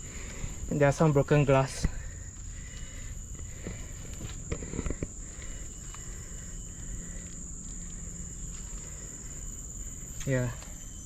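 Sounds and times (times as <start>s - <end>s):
forest insects droning: 0.0s - 11.0s
footsteps: 1.7s - 10.8s.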